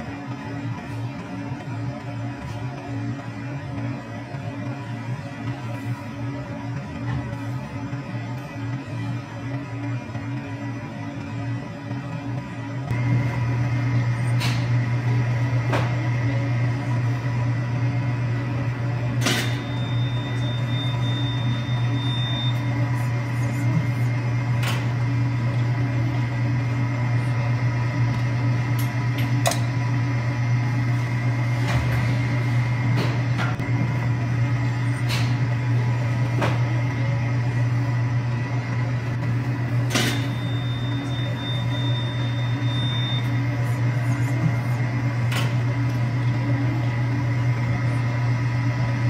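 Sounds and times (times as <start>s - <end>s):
motor humming: 0.0s - 49.0s.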